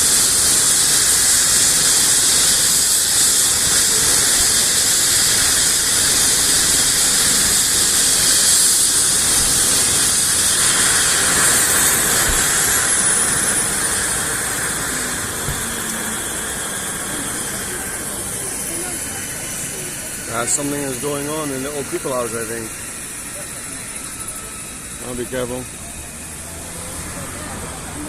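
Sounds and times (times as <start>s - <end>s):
helicopter turbine hissing: 0.0s - 28.0s
high turbine whine: 0.0s - 28.0s.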